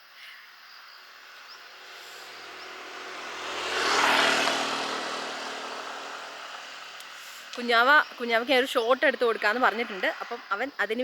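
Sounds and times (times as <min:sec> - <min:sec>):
road vehicle passing by: 0:01.0 - 0:10.6.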